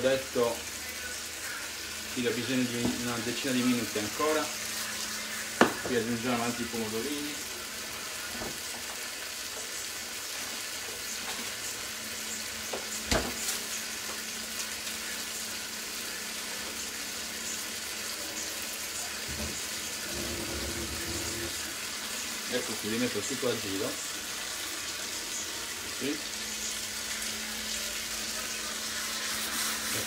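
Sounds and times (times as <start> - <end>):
fish sizzling in a frying pan: 0.0 - 30.0.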